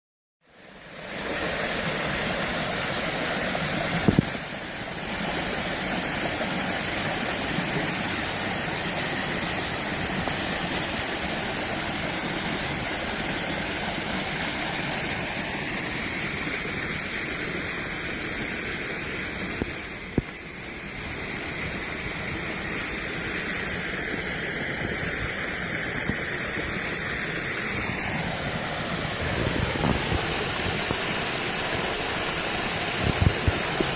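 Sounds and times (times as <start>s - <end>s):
water splashing in a cascade: 0.4s - 33.9s.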